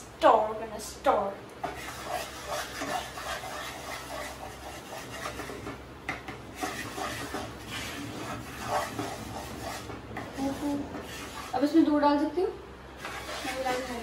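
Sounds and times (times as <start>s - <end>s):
wooden spatula scraping a pan: 1.6s - 12.0s, 13.0s - 14.0s.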